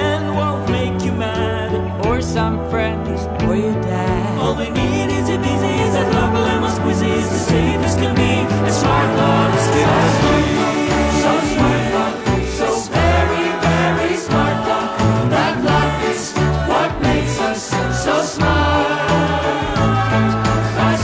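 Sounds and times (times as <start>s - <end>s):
bass line: 0.0s - 21.0s
singing: 0.0s - 21.0s
upbeat jingle music: 0.0s - 21.0s.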